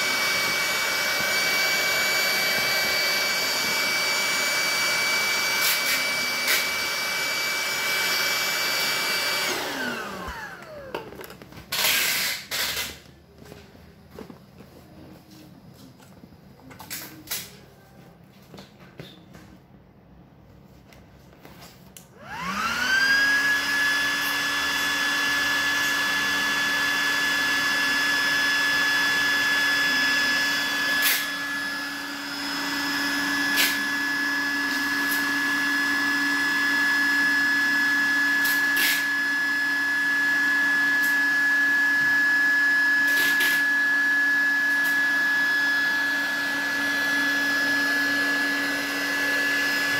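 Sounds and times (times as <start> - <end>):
electric air pump whining: 0.0 - 13.6, 22.0 - 49.9.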